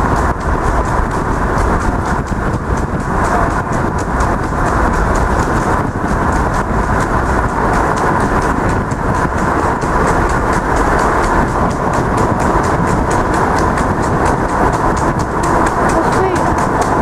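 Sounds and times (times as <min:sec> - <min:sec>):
tyres on wet road: 0:00.0 - 0:17.0
wind rushing: 0:00.0 - 0:17.0.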